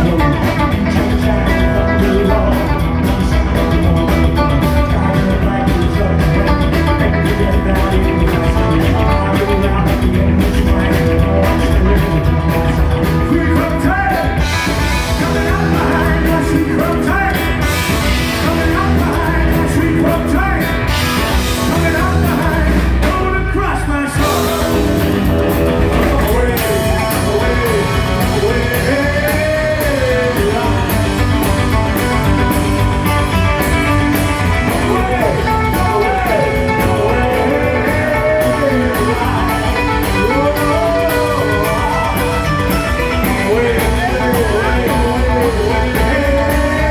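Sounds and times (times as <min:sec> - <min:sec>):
drum beat: 0:00.0 - 0:23.5, 0:24.2 - 0:46.9
electric guitar: 0:00.0 - 0:46.9
person singing: 0:00.0 - 0:46.9
rockabilly band playing live: 0:00.0 - 0:46.9.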